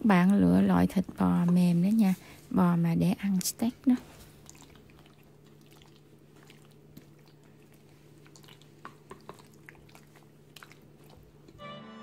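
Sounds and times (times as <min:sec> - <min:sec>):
wet squelching of mixing: 0:00.0 - 0:11.6.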